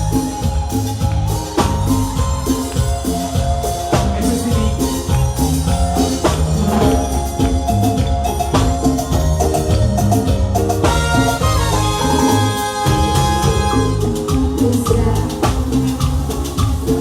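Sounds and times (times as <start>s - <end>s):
busy percussion: 0.0s - 17.0s
latin dance band playing: 0.0s - 17.0s.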